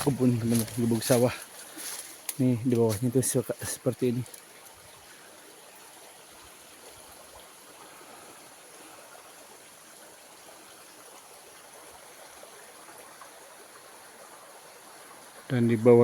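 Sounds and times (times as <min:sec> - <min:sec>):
small stream trickling: 0:00.0 - 0:16.0.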